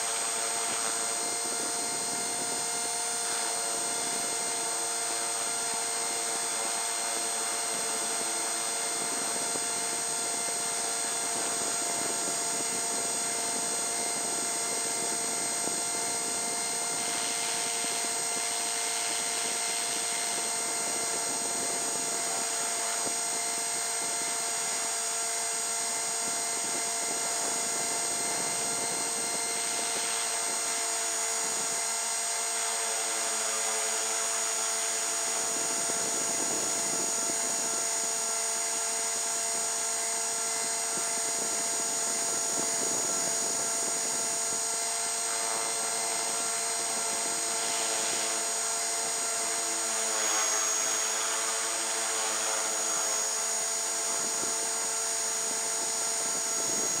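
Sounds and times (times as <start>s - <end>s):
rc helicopter rotor whine: 0.0s - 57.0s.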